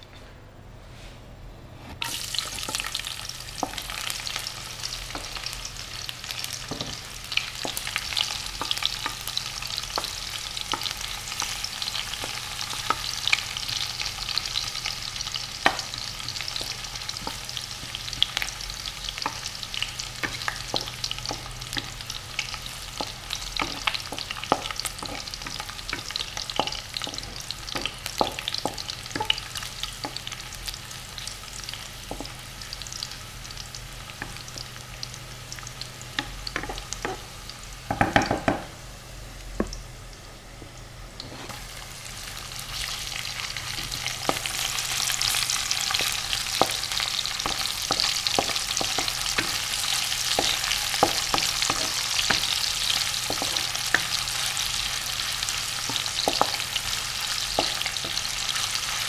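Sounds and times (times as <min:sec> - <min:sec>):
garlic sizzling in hot oil: 0:02.0 - 0:38.8, 0:41.2 - 0:59.0.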